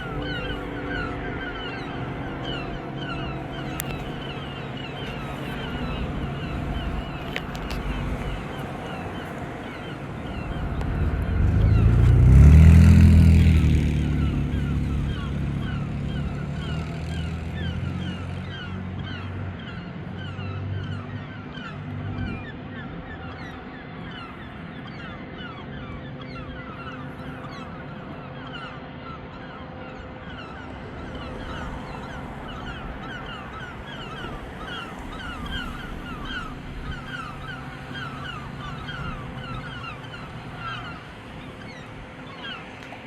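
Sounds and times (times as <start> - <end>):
birds honking: 0.0 - 43.0.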